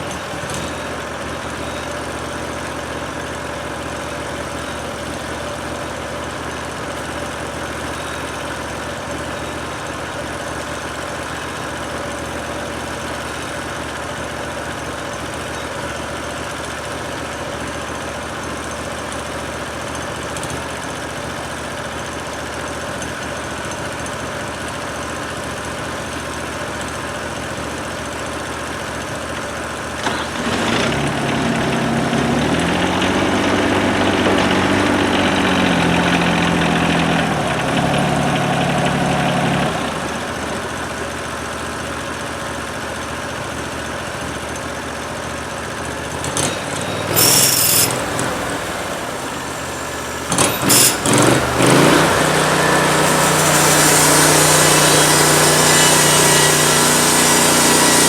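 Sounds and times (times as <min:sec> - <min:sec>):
sawmill engine idling and revving: 0:00.0 - 0:58.0.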